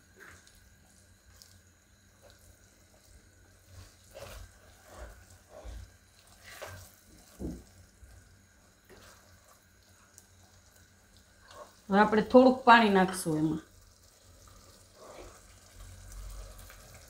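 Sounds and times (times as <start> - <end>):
spatula stirring curry in pan: 0.0 - 11.9, 13.7 - 17.0.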